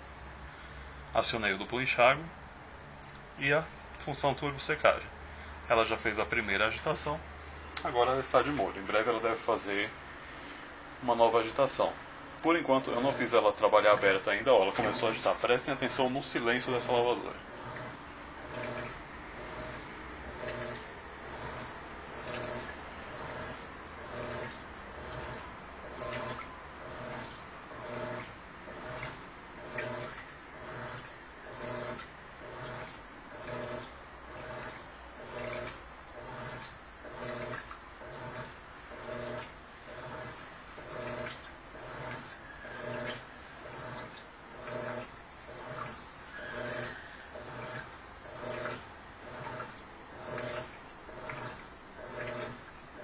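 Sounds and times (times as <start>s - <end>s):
washing machine motor: 3.3s - 53.0s
water sloshing in washing machine: 3.4s - 53.0s.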